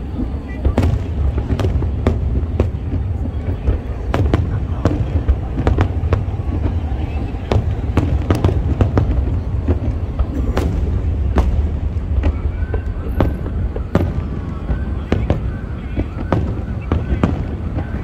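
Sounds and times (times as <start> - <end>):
fireworks cracks and bangs: 0.0 - 18.0.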